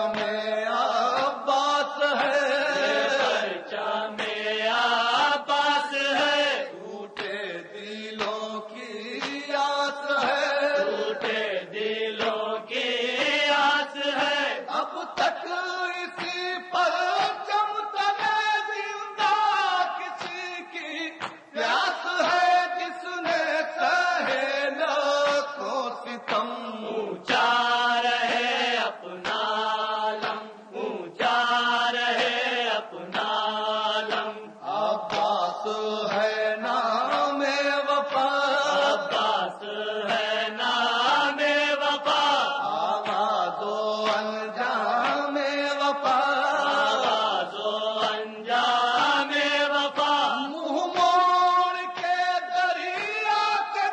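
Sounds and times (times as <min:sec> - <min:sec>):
man chanting a lament: 0:00.0 - 0:53.9.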